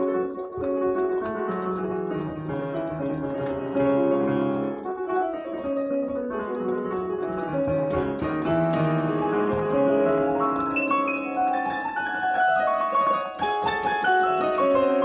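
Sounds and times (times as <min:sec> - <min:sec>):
digital piano playing chords: 0:00.0 - 0:15.0.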